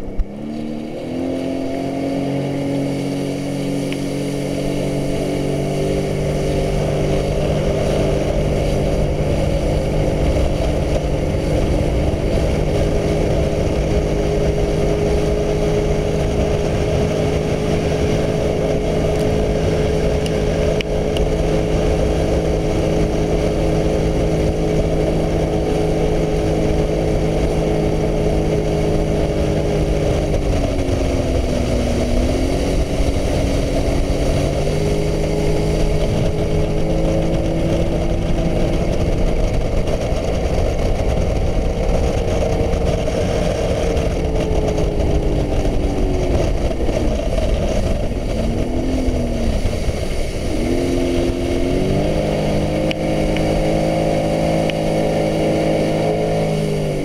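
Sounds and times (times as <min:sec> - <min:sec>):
jet ski engine running: 0:00.0 - 0:57.0
wind and water spray: 0:00.0 - 0:57.0.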